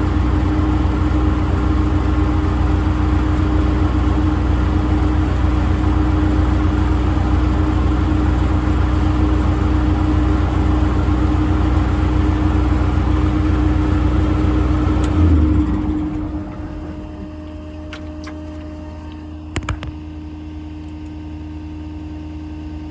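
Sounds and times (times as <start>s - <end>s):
diesel truck engine running: 0.0s - 19.9s.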